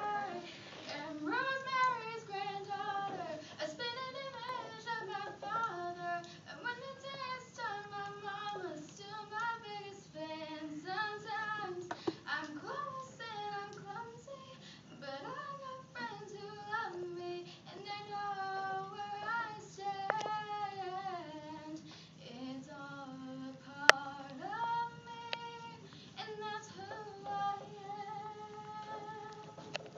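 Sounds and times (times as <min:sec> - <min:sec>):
girl singing unaccompanied: 0:00.0 - 0:29.8.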